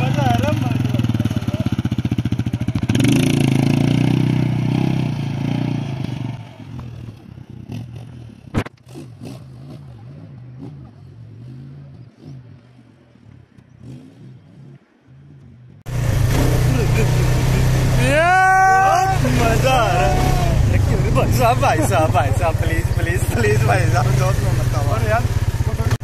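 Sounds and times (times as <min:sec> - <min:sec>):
atv engine revving: 0:00.0 - 0:14.9, 0:15.9 - 0:26.0.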